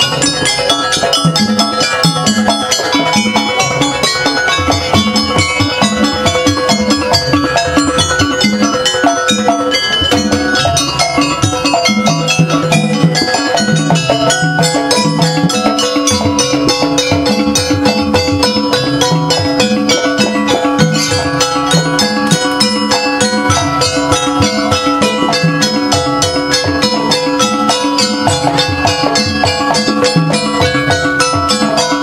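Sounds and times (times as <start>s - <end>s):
gamelan ensemble playing fast beat: 0.0s - 32.0s.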